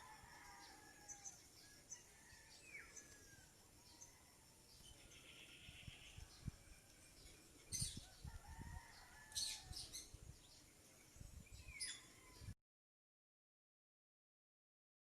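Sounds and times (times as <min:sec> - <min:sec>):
faint outdoor ambience: 0:00.0 - 0:12.6.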